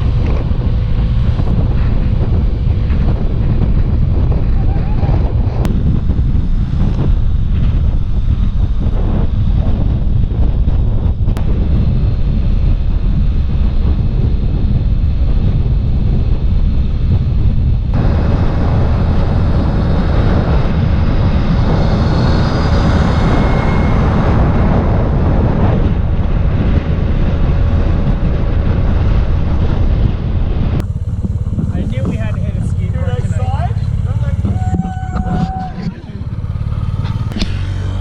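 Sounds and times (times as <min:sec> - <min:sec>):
road noise: 0:00.0 - 0:38.0
vehicle engine: 0:00.0 - 0:38.0
wind rumble on microphone: 0:00.0 - 0:38.0.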